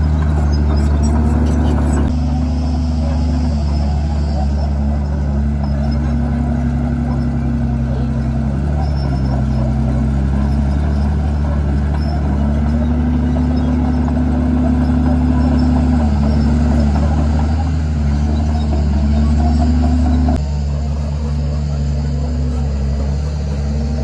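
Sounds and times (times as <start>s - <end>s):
steady clatter: 0.0s - 20.5s
bulldozer diesel engine under load: 0.0s - 24.0s.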